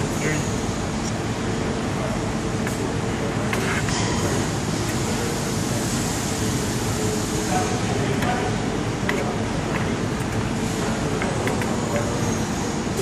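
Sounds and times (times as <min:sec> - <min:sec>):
factory machinery and ventilation noise: 0:00.0 - 0:13.0.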